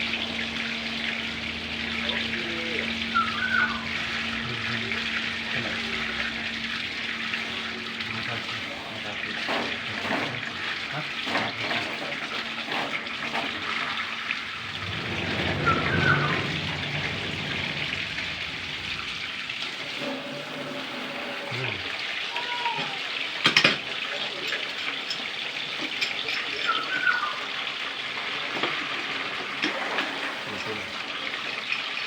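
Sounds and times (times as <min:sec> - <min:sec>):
water running from tap: 0:00.0 - 0:32.0.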